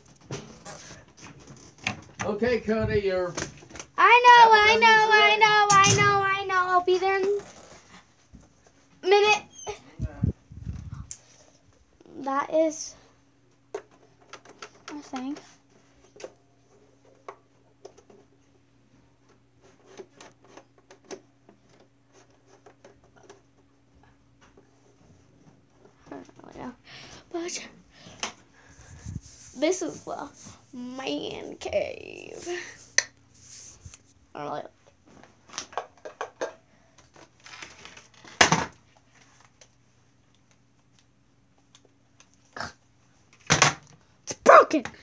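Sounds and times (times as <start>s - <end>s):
low steady hum: 0.0s - 43.4s.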